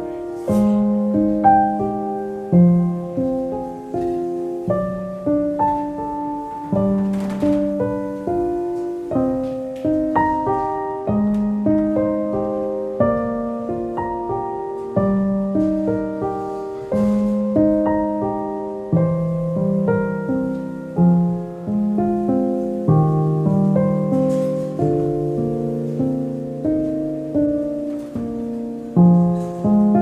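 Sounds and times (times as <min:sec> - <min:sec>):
gentle solo piano: 0:00.0 - 0:30.0.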